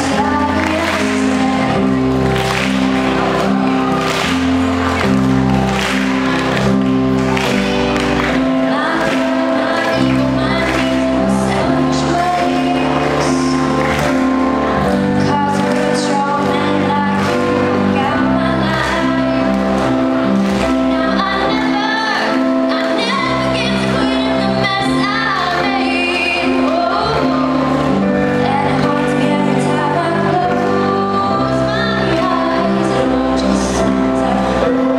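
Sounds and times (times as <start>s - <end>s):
woman singing: 0.0s - 2.4s, 8.3s - 34.9s
backing music: 0.0s - 34.9s.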